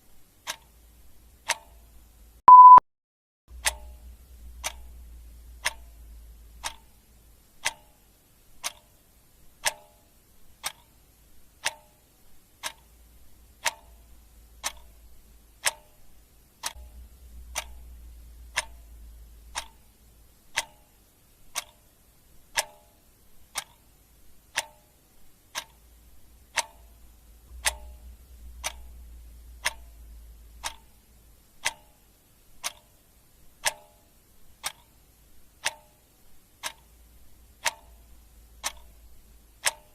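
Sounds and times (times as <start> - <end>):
clock ticking: 0.3 - 2.8, 3.5 - 39.9.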